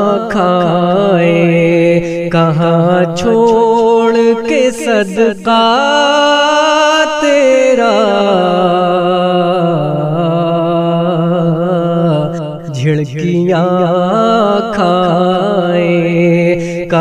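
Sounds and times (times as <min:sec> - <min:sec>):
person singing unaccompanied: 0:00.0 - 0:17.0.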